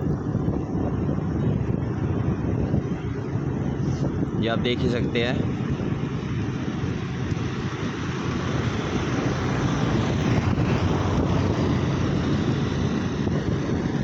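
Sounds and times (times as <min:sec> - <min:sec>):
vehicle rumble: 0:00.0 - 0:14.0
wind noise on microphone: 0:00.0 - 0:14.0.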